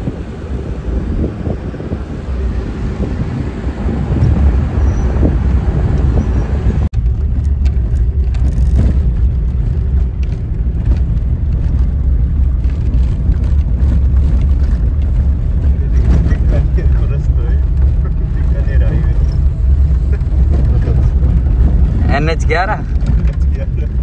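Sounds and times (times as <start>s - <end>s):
vehicle road rumble: 0.0s - 24.0s.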